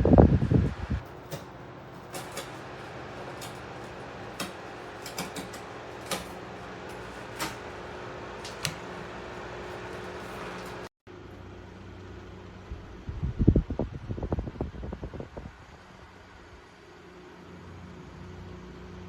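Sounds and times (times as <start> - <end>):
electric fan humming: 0.0 - 18.9.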